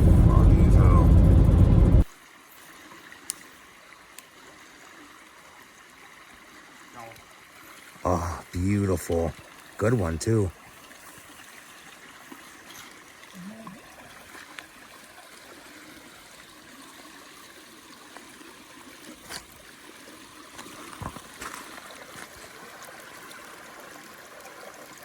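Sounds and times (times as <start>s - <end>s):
stream trickling over rocks: 2.1s - 25.0s.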